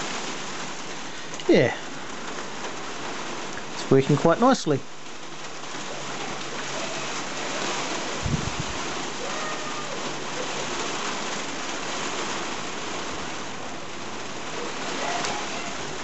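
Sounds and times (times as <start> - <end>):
rain falling on a roof: 0.0 - 16.0.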